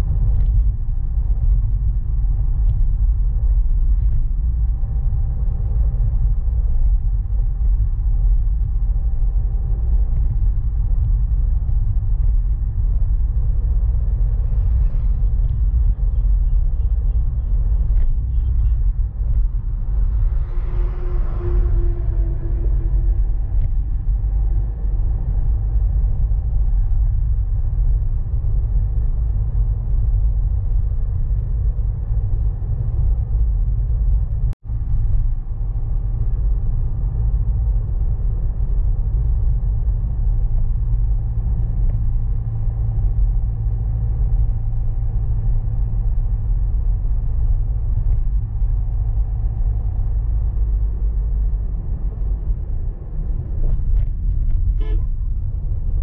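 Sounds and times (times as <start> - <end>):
car driving low rumble: 0.0 - 56.0.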